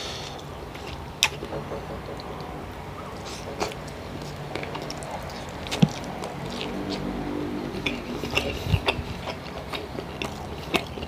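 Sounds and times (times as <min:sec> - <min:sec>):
man chewing with wet smacking: 0:00.3 - 0:02.5, 0:03.1 - 0:11.0.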